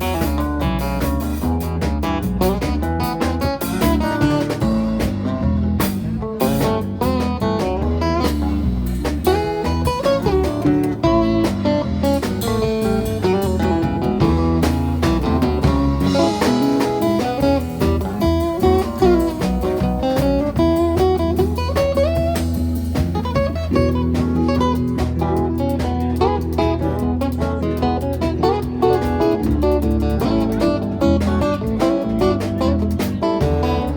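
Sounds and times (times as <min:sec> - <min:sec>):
drums: 0:00.0 - 0:33.9
guitar melody with bending notes: 0:00.0 - 0:33.9
low bass notes: 0:00.0 - 0:33.9.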